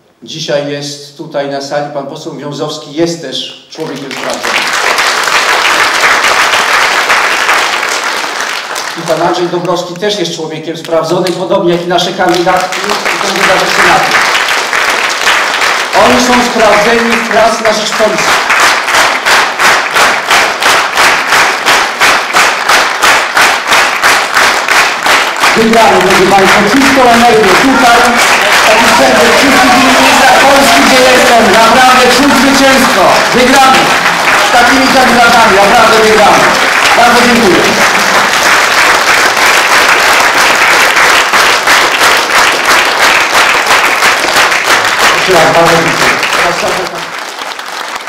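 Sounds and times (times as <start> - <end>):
audience clapping in unison: 3.8 - 48.0.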